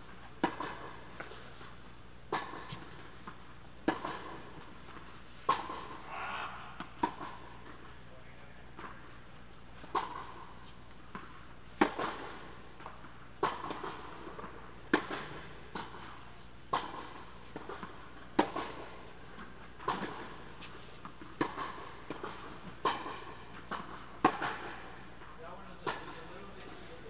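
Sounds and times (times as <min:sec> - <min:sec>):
racket hitting tennis ball: 0:00.3 - 0:04.7, 0:05.4 - 0:08.0, 0:09.8 - 0:16.1, 0:16.7 - 0:25.2, 0:25.8 - 0:26.2
tennis ball bouncing: 0:00.3 - 0:06.0, 0:06.6 - 0:08.0, 0:09.8 - 0:25.2, 0:25.8 - 0:26.8.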